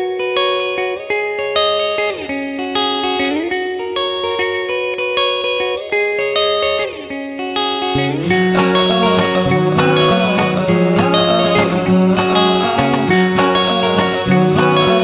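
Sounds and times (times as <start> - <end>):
sliding guitar melody: 0.0 - 15.0.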